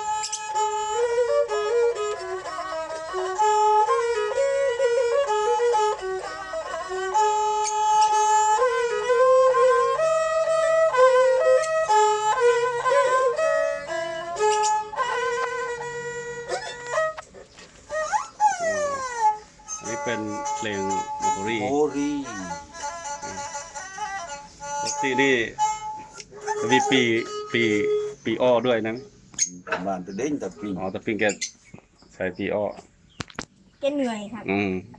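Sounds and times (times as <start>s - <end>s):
bowed fiddles playing melody: 0.0s - 31.3s.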